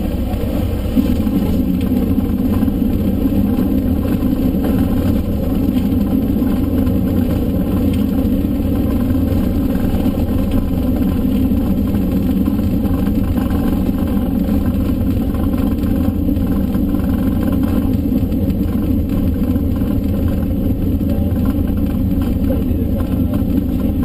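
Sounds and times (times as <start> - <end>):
small plane engine and propeller: 0.0 - 24.0.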